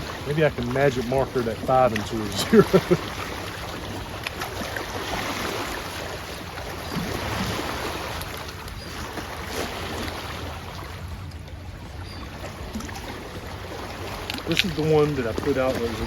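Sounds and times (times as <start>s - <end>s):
lapping water: 0.0s - 16.0s
wind: 0.0s - 16.0s.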